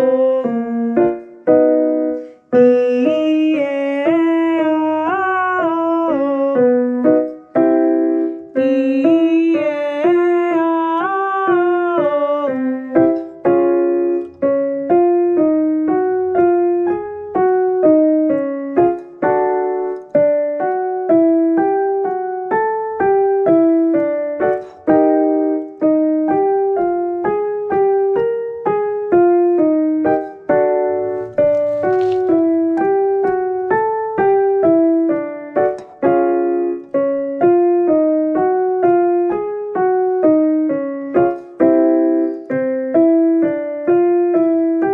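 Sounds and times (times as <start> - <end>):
piano notes: 0.0 - 44.9.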